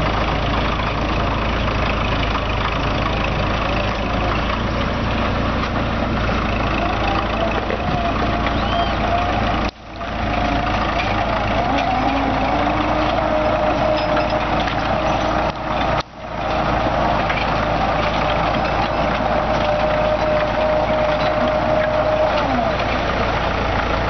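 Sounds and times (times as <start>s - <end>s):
heavy diesel engine running: 0.0s - 24.0s
wavering engine whine: 0.0s - 24.0s.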